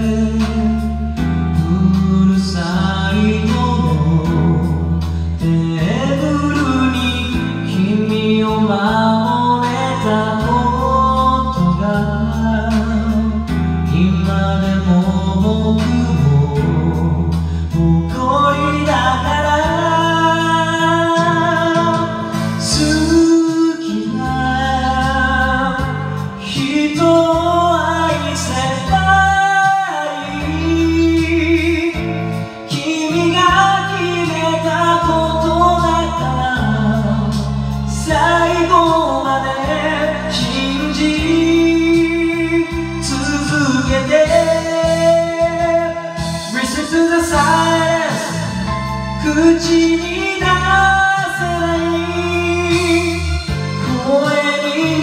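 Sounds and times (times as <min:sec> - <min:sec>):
pop song with backing band: 0:00.0 - 0:55.0.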